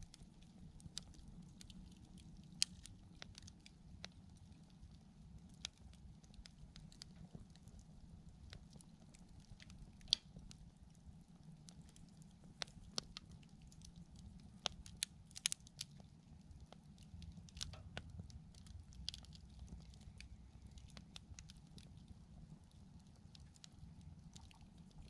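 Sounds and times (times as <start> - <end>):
campfire crackling and popping: 0.0 - 25.0
faint low rumble: 0.0 - 25.0.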